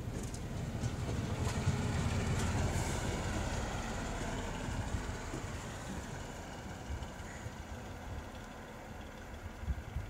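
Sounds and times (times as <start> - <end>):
diesel engine rumble: 0.0 - 10.0
wheels on rail: 0.0 - 10.0.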